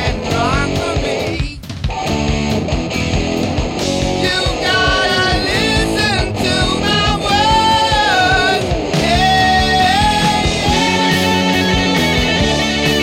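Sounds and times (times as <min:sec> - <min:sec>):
bass and drums: 0:00.0 - 0:13.0
distorted electric guitar lead: 0:00.0 - 0:13.0.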